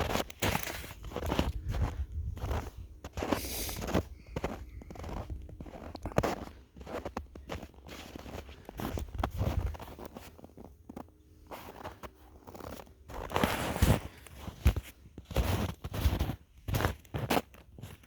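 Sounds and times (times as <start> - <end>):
footsteps crunching in snow: 0.0 - 18.0.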